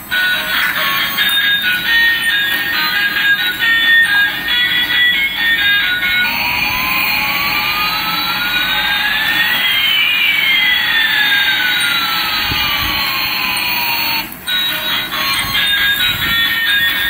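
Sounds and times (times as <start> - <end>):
jet noise with rising whine: 0.0 - 14.5
falling whine: 0.0 - 17.0.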